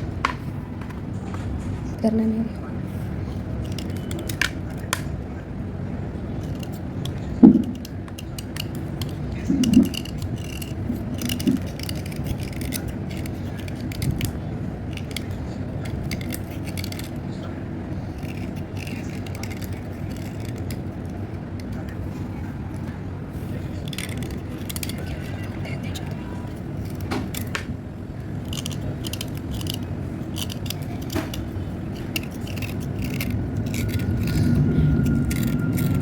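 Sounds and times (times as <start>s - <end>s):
slate pencils clicking and scraping: 0.0s - 2.3s, 2.9s - 5.2s, 6.2s - 36.0s.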